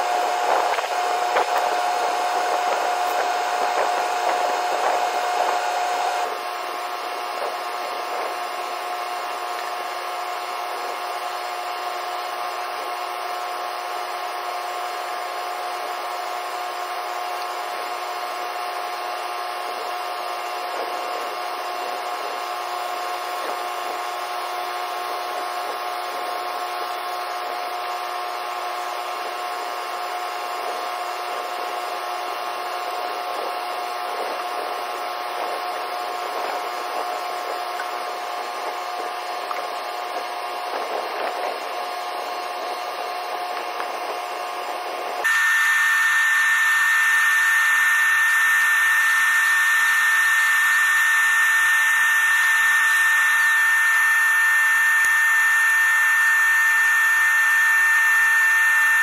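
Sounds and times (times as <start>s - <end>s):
machinery hum with tones: 0.0s - 59.0s.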